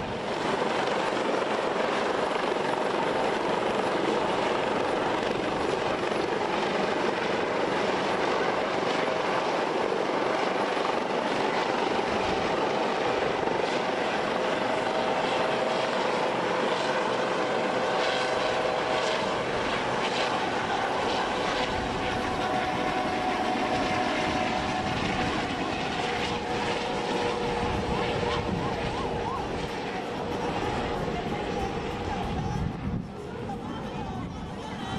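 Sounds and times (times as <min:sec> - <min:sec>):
faint steady tones: 0:00.0 - 0:34.9
helicopter rotor and engine: 0:00.0 - 0:34.9.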